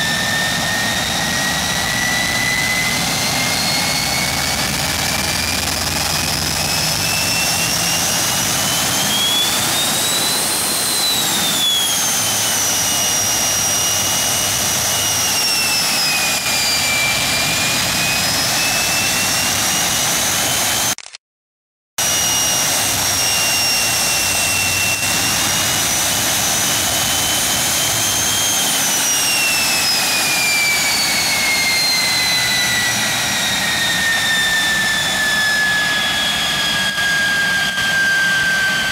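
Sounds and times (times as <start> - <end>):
turbojet engine whine: 0.0 - 21.1, 22.0 - 38.9.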